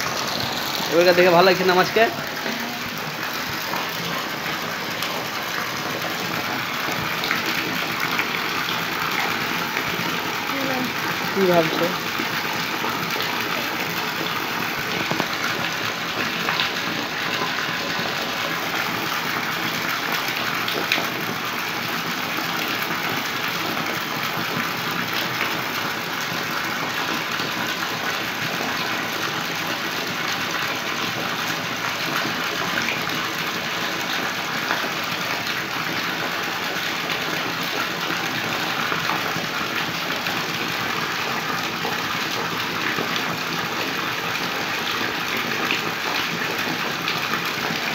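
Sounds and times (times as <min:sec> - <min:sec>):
rushing water: 0:00.0 - 0:47.9.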